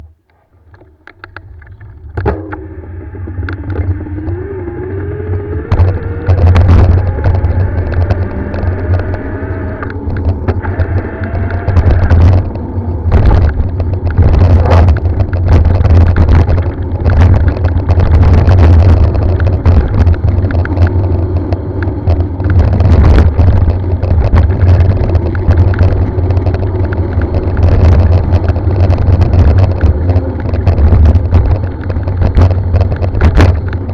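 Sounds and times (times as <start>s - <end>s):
motorcycle engine under load: 0.1s - 33.9s.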